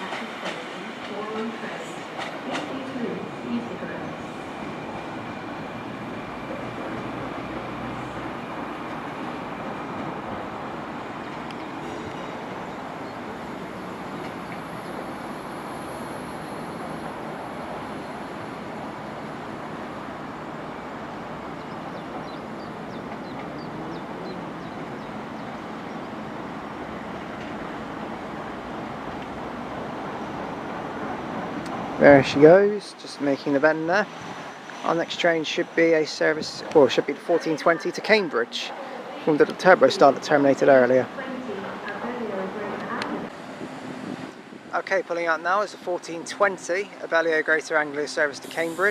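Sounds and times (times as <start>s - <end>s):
diesel train engine rumbling: 0.0s - 48.9s.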